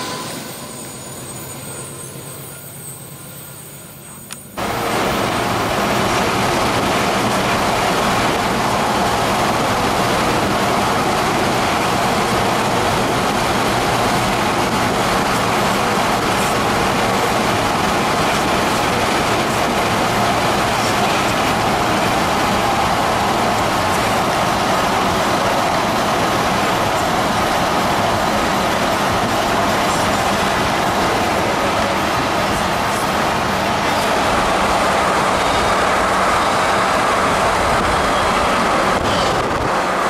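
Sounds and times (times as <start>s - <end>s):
freight train wheels on rails: 0.0s - 40.0s.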